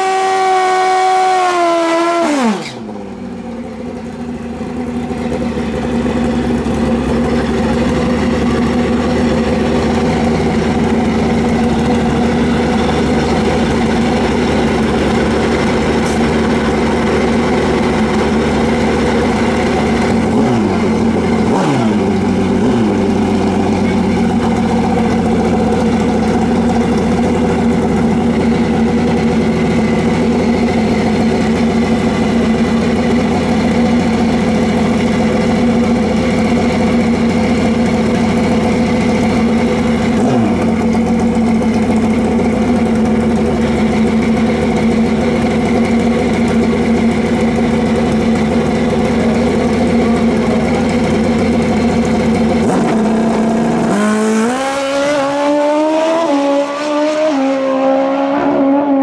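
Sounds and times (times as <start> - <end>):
motorcycle engine running loudly: 0.0 - 59.0.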